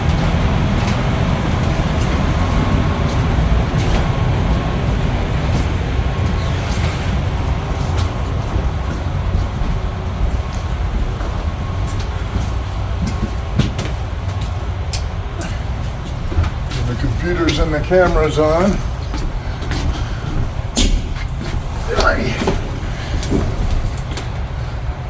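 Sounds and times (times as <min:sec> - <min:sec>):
model trains rumbling on track: 0:00.0 - 0:20.8.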